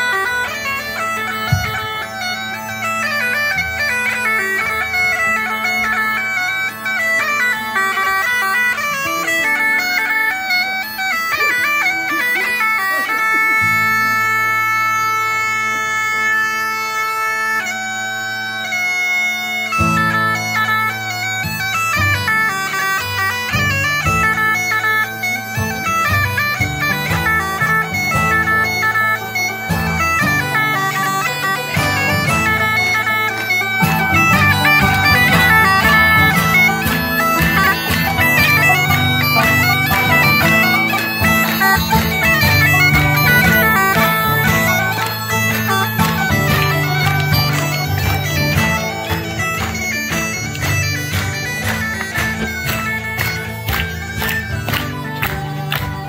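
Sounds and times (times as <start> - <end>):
bagpipes playing folk tune: 0.0 - 56.0
guitar accompaniment: 0.0 - 56.0.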